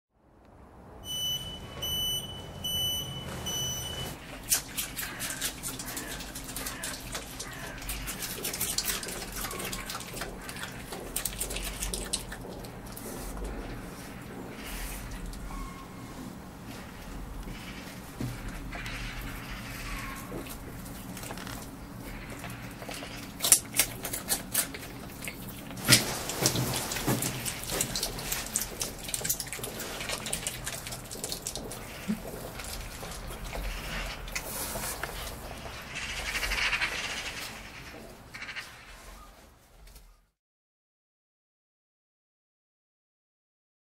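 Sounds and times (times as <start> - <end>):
otter chewing wet crunching: 2.6 - 38.7.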